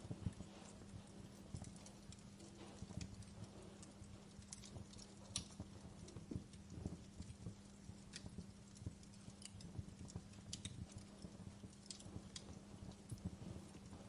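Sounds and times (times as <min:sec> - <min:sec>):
faint low hum: 0:00.0 - 0:14.0
fire crackling and popping: 0:00.0 - 0:14.0.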